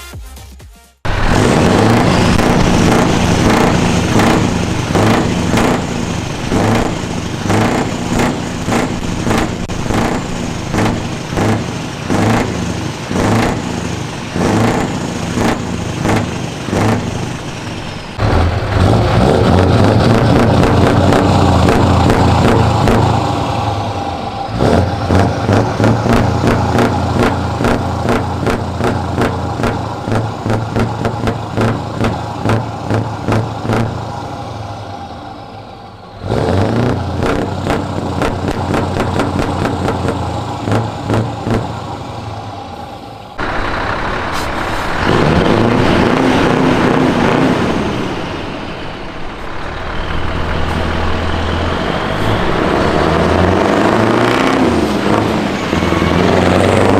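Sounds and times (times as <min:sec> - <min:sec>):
truck engines revving: 0:00.0 - 0:56.9.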